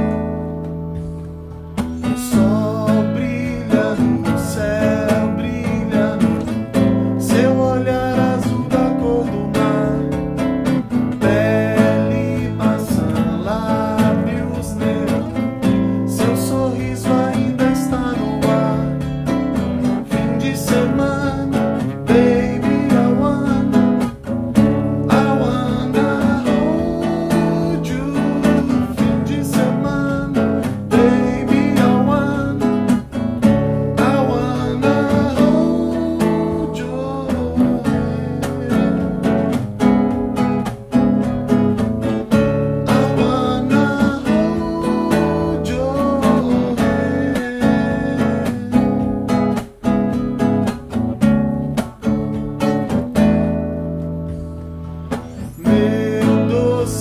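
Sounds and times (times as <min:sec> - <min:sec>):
acoustic guitar strumming: 0:00.0 - 0:57.0
man singing: 0:01.9 - 0:39.9, 0:40.6 - 0:49.9, 0:55.1 - 0:57.0.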